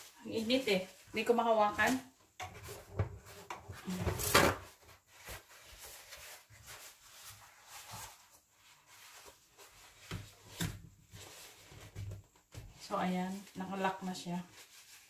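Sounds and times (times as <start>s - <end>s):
cloth rustling: 0.0s - 15.0s.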